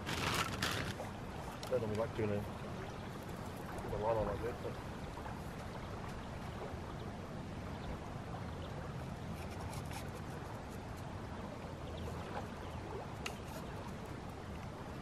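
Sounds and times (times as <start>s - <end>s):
water lapping: 0.0s - 15.0s.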